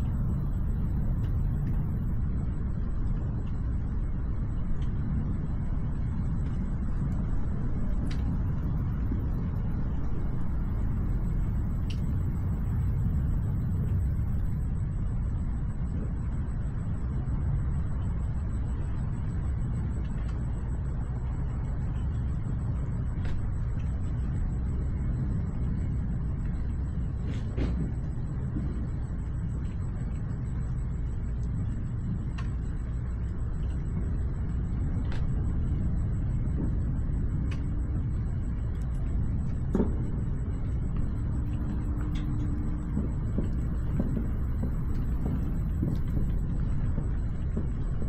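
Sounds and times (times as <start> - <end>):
thunderstorm low rumble: 0.0 - 48.0.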